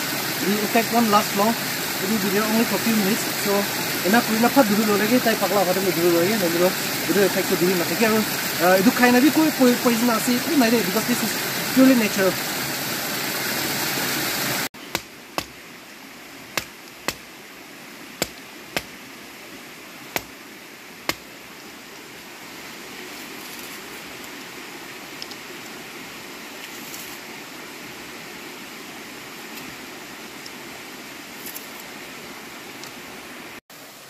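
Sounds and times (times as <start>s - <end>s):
rocky stream running: 0.0s - 34.0s.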